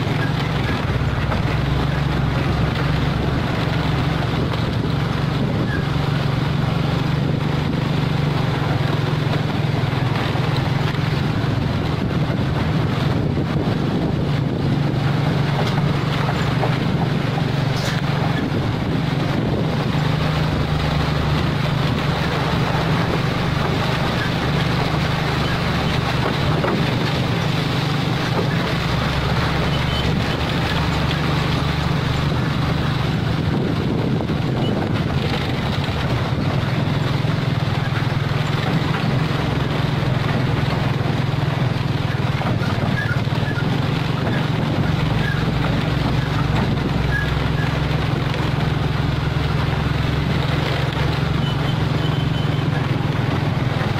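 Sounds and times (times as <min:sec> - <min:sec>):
truck diesel engine running: 0:00.0 - 0:53.9
wind noise on microphone: 0:00.0 - 0:53.9.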